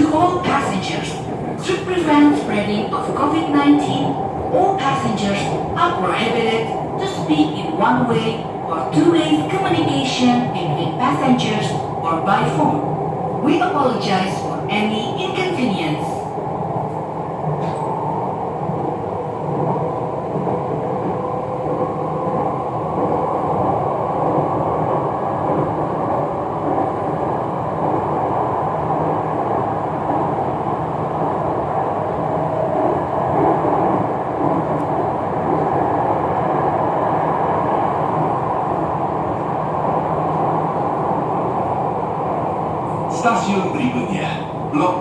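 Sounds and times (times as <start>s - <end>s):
train rumbling from inside: 0.0s - 45.0s.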